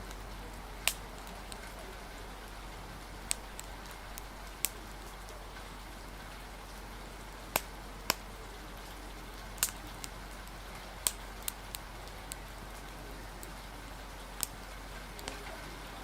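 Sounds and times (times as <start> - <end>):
rain hissing: 0.0 - 16.0
wood fire popping: 0.0 - 16.0.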